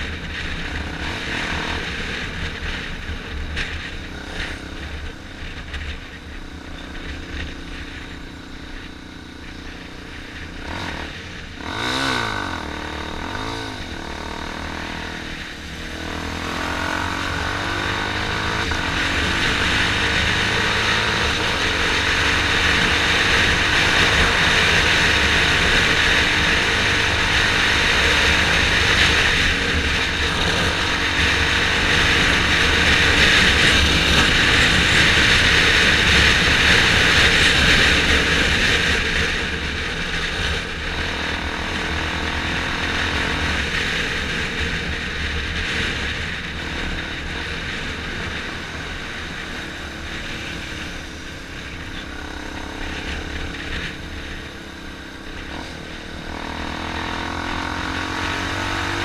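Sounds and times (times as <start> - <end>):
motorcycle engine revving: 0.0 - 59.0
motorcycle engine running: 0.0 - 59.0.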